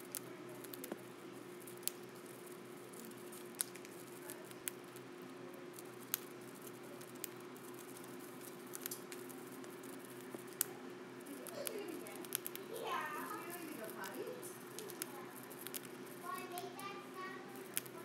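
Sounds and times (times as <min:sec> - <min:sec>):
bird beak cracking seeds: 0:00.0 - 0:05.1, 0:05.7 - 0:16.9, 0:17.5 - 0:18.0
steady low hum: 0:00.0 - 0:18.0.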